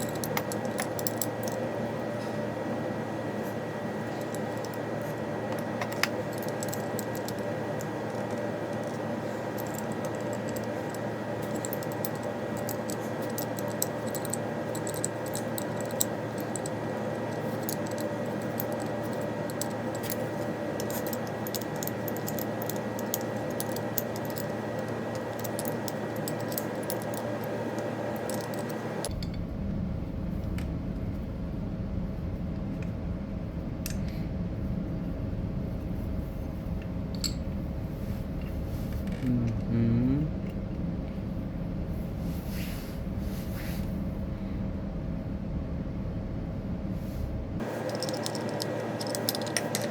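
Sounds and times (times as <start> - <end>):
steady hum: 0.0 - 49.9.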